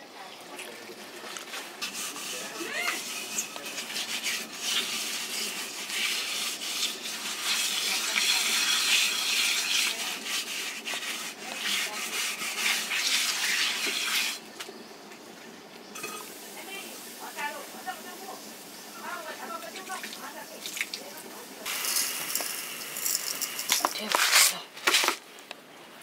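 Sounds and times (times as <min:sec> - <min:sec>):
water running and splashing: 0:00.2 - 0:14.5, 0:16.0 - 0:24.4.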